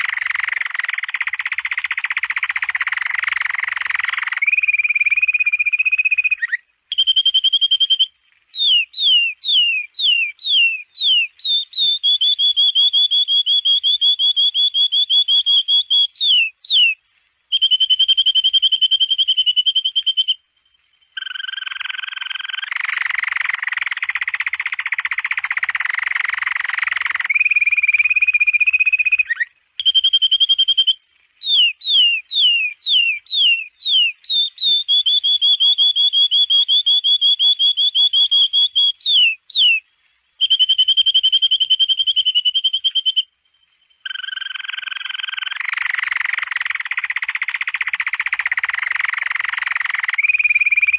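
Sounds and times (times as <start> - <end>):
canary singing: 0.0 - 50.9.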